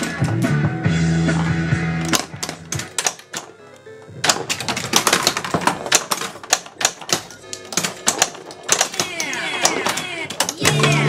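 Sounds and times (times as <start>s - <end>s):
pinball machine clacks: 2.0s - 11.0s.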